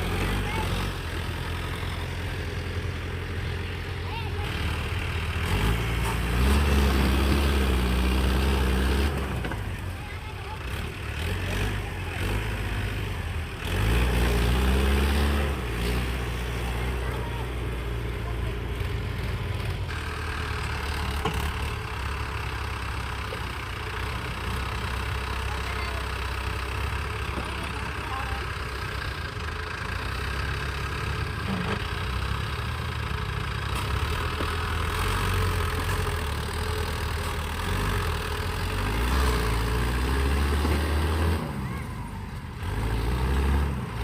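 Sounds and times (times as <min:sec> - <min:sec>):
tractor diesel engine droning: 0:00.0 - 0:44.0.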